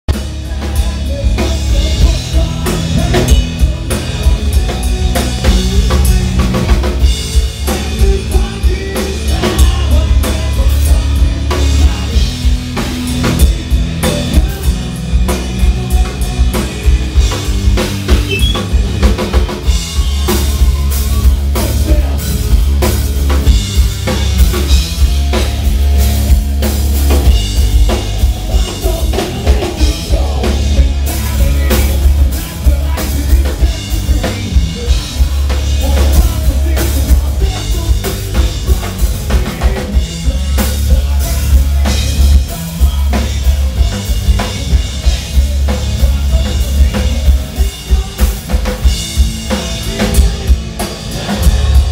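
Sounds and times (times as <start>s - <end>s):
live rock band playing: 0.1s - 51.9s.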